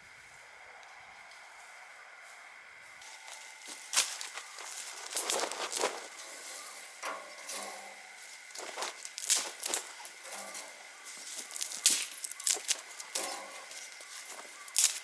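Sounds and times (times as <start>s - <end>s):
campfire wood crackling: 0.0s - 15.0s.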